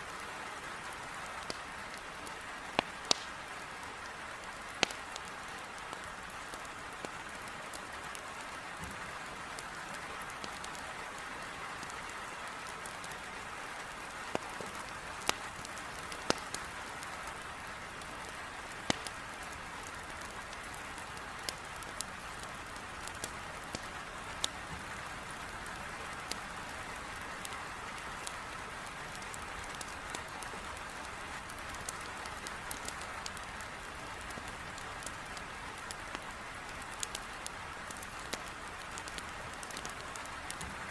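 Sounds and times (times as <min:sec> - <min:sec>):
heavy rain on a window: 0:00.0 - 0:40.9
wood fire crackling: 0:00.0 - 0:40.9.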